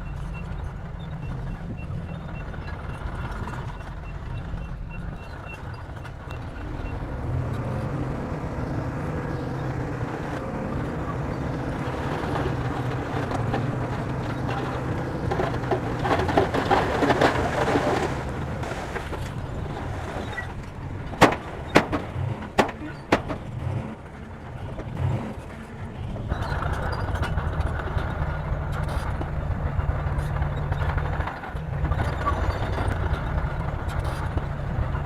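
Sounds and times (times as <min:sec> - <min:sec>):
bulldozer diesel engine: 0:00.0 - 0:35.0
clattering and crunching tracks: 0:00.1 - 0:35.0.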